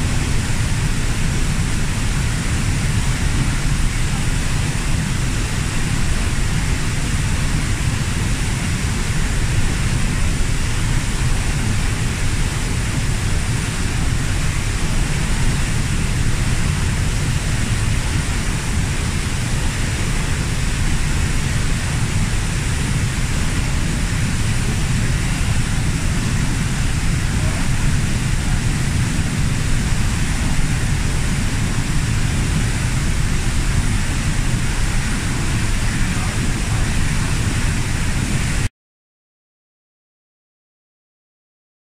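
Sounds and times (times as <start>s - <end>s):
waterfall roar: 0.0s - 38.7s.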